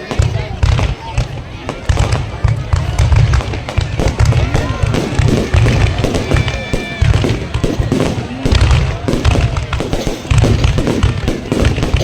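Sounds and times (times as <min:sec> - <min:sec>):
crowd voices: 0:00.0 - 0:12.0
fireworks bursting: 0:00.0 - 0:12.0.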